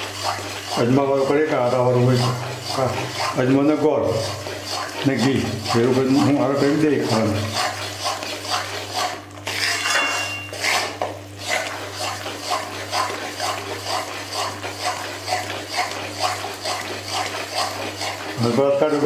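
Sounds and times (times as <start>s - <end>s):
metal ladle scraping a pan: 0.0s - 19.0s
steady low hum: 0.0s - 19.0s.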